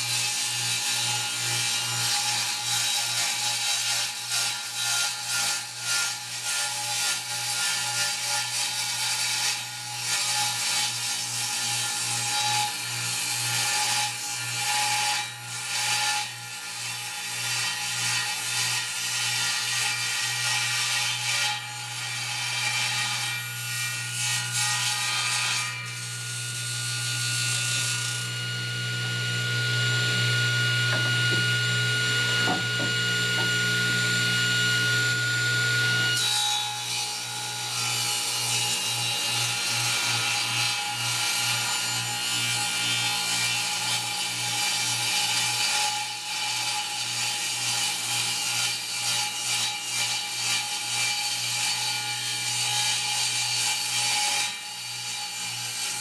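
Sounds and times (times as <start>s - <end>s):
power saw cutting wood: 0.0s - 56.0s.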